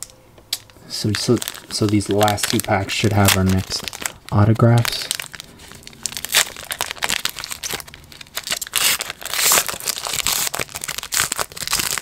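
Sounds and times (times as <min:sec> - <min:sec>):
foil wrapper crinkling: 0:00.6 - 0:12.0.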